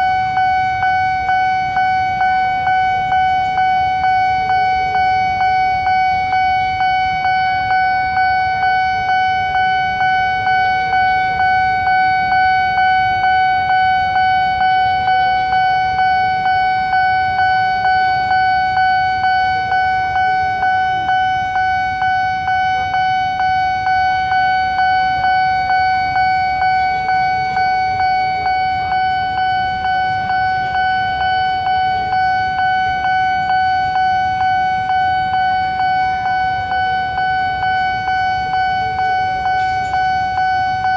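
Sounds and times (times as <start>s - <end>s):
railway crossing alarm dinging: 0.0s - 40.9s.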